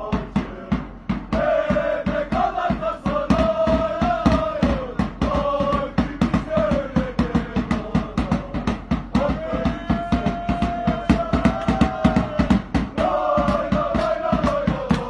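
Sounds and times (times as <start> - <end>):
crowd chanting: 0.0 - 15.0
fast drum beat: 0.0 - 15.0.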